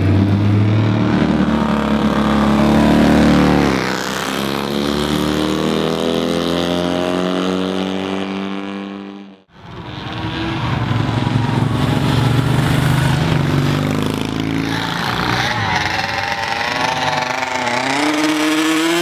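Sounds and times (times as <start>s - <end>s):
racing motorcycle approaching: 0.0s - 19.0s.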